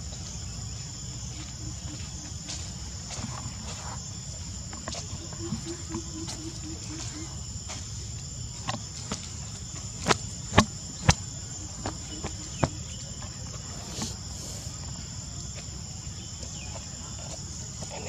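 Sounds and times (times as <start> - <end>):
crickets droning: 0.0 - 18.0.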